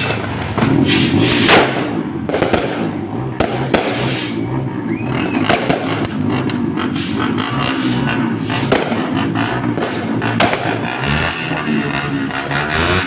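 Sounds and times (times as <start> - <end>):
fireworks exploding: 0.0 - 13.0.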